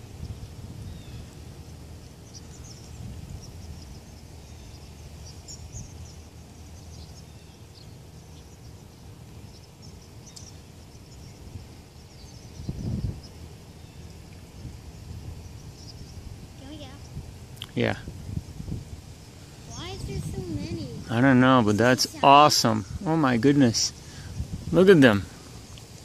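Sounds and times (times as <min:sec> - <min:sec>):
flock of birds chirping: 0:00.0 - 0:26.0
steady low rumble: 0:00.0 - 0:26.0.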